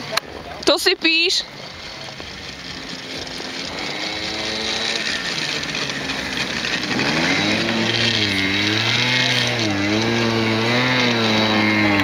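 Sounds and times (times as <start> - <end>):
scooter two-stroke engine: 0.0 - 12.0.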